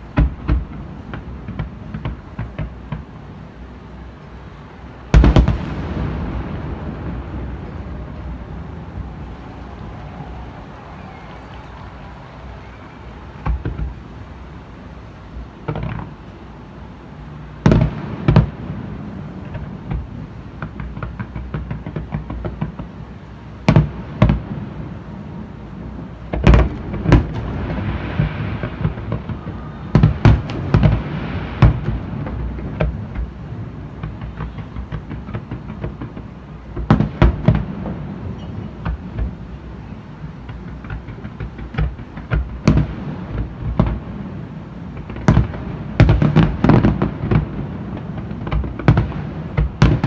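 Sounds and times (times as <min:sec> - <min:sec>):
low background rumble: 0:00.0 - 0:50.0.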